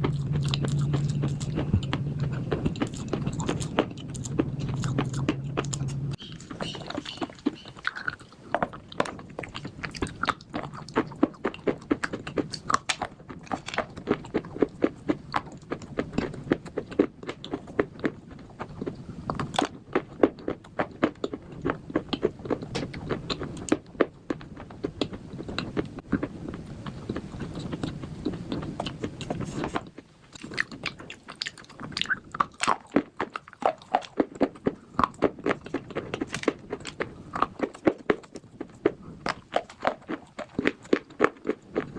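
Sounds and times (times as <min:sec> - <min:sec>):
biting and chewing crunchy bars: 0:00.0 - 0:41.9.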